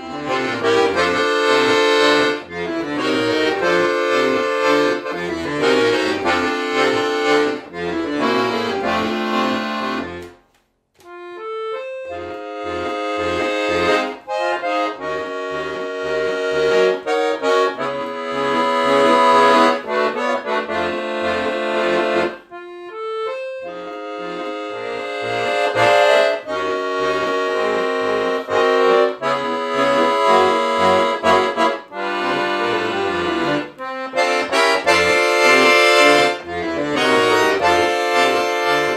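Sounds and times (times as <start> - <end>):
accordion playing: 0.0 - 38.9.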